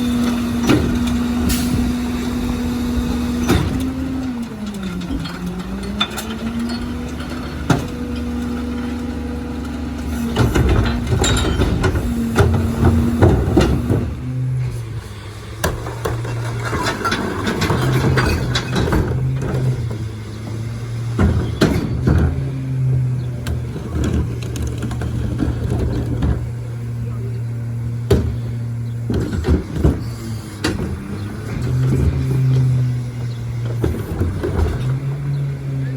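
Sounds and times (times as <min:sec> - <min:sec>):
garbage truck engine humming: 0:00.0 - 0:35.9
knocks and clatter: 0:00.2 - 0:14.8, 0:15.6 - 0:26.9, 0:27.9 - 0:35.8.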